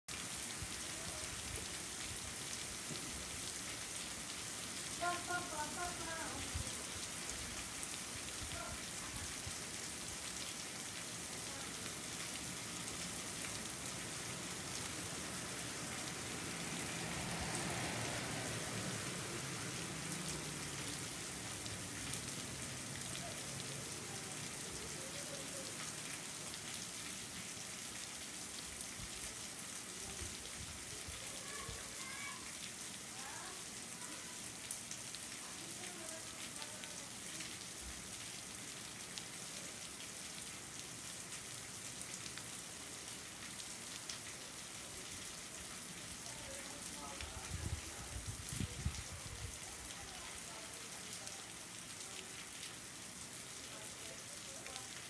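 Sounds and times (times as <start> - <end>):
steady rain falling: 0.1 - 55.0.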